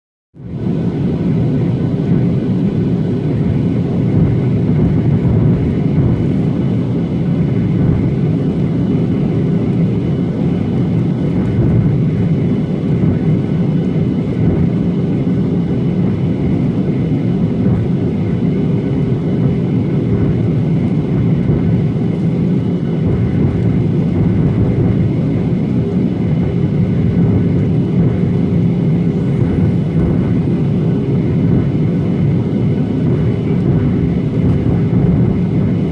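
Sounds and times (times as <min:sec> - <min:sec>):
jet engine drone in flight: 0:00.4 - 0:35.9.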